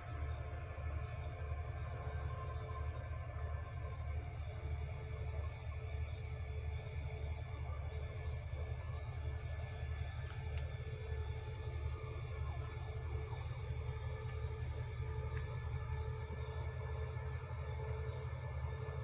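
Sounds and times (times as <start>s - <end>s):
diesel locomotive rumble: 0.0s - 19.0s
high insect trill: 0.1s - 19.0s.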